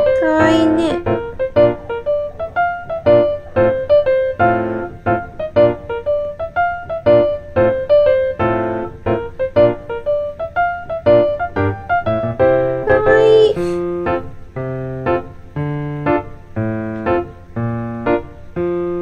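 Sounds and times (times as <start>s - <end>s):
light bouncy piano tune: 0.0s - 19.0s.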